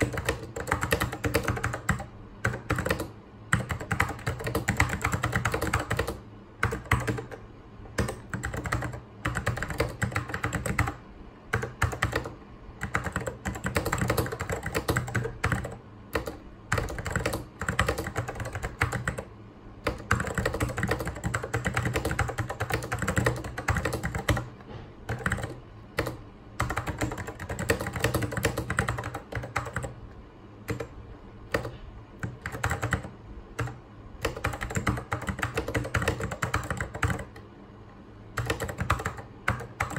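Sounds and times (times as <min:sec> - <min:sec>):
mechanical keyboard typing: 0:00.0 - 0:30.0, 0:30.6 - 0:37.4, 0:38.4 - 0:39.9.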